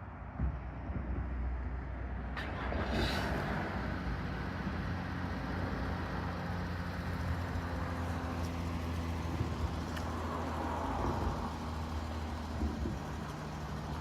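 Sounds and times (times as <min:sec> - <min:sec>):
vehicle engine humming: 0:00.0 - 0:14.0
vehicle passing: 0:02.4 - 0:14.0.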